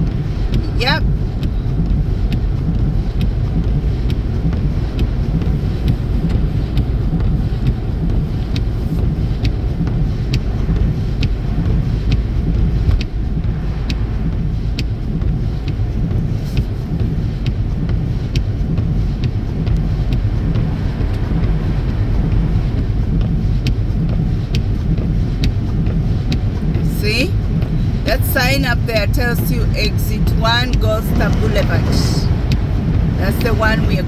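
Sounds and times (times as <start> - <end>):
car road and engine rumble: 0.0 - 34.0
faint regular ticking: 0.0 - 34.0.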